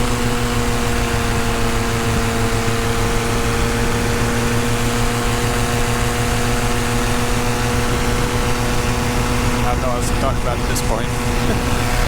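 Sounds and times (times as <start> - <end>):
paramotor engine drone: 0.0 - 12.0.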